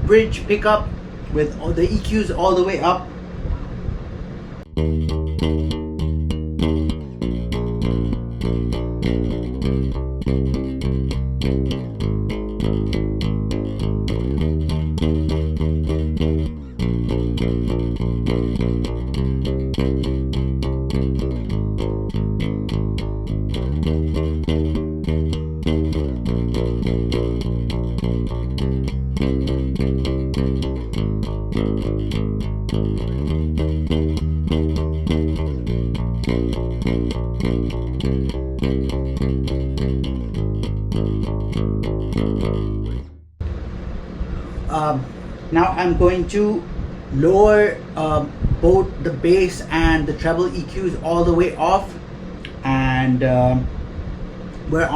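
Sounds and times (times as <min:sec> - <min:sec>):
electric bass plucked notes: 0:00.0 - 0:03.9, 0:04.6 - 0:43.6, 0:44.3 - 0:54.9.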